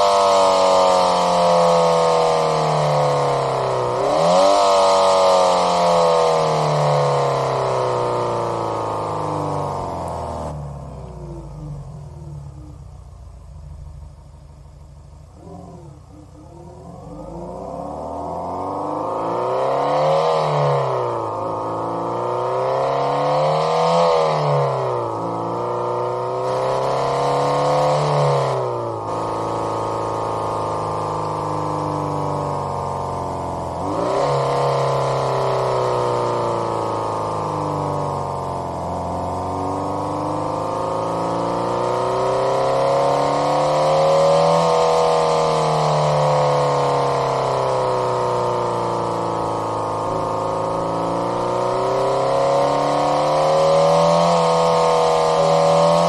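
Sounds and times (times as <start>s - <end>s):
synthesized car engine revving: 0.0s - 56.0s.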